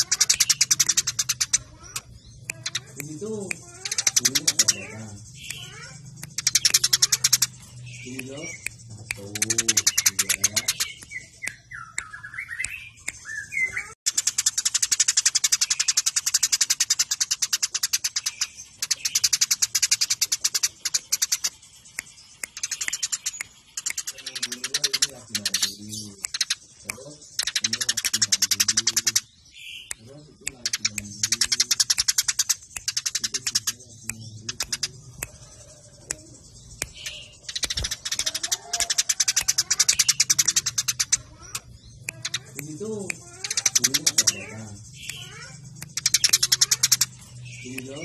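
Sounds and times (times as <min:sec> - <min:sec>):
sparrows chirping rapidly: 0:00.0 - 0:48.0.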